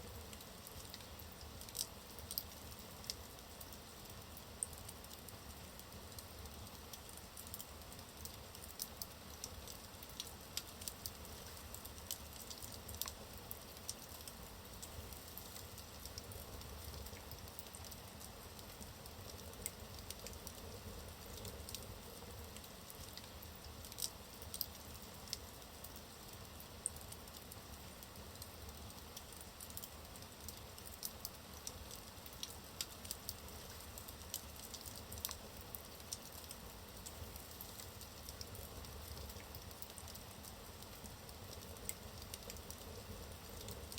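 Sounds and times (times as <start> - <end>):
burning logs crackling: 0.1 - 43.9.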